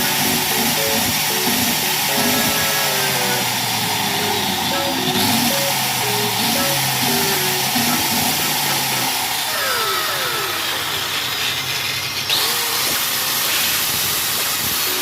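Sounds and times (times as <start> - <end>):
angle grinder running: 0.0 - 15.0.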